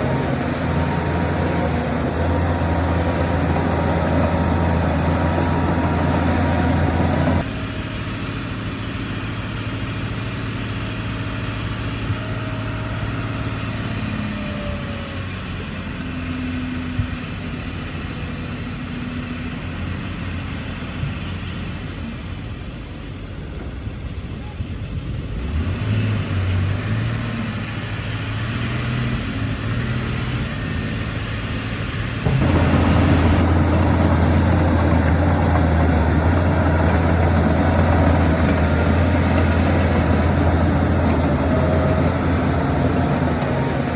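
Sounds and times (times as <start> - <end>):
faint engine whines: 0.0 - 43.9
heavy diesel engine running: 0.0 - 43.9.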